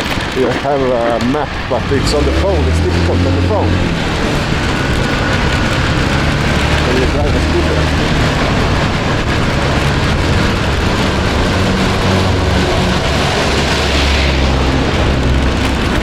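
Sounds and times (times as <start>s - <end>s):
scooter engine running: 0.0s - 16.0s
wind and road noise: 0.0s - 16.0s.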